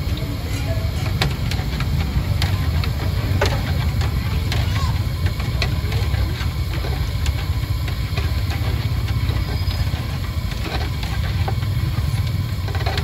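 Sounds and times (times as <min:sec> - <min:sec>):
steady low rumble: 0:00.0 - 0:13.0
wire skimmer clinking on pot: 0:00.2 - 0:13.0.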